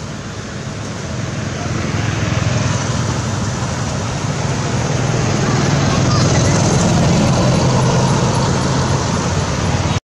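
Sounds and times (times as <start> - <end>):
road noise: 0.0 - 10.0
vehicle engine humming: 0.0 - 10.0.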